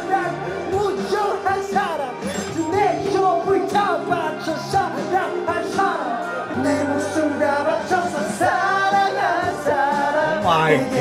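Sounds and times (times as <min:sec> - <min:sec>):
instrumental backing music: 0:00.0 - 0:11.0
man singing into a microphone: 0:00.0 - 0:11.0.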